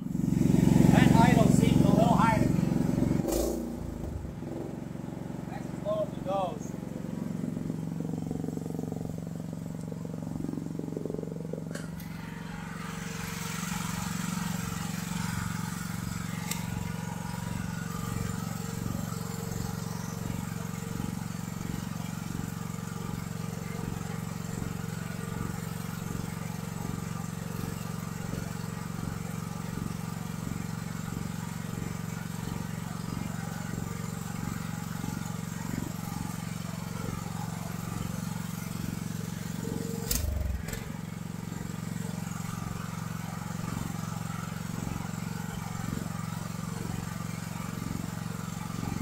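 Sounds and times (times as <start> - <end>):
small engine idling high: 0.0 - 49.0.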